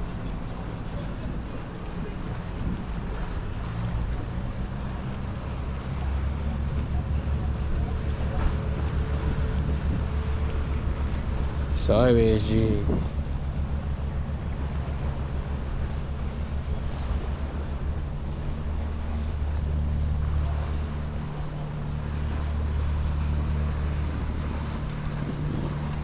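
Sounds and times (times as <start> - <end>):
sea waves: 0.0 - 26.0
wind buffeting microphone: 0.0 - 26.0.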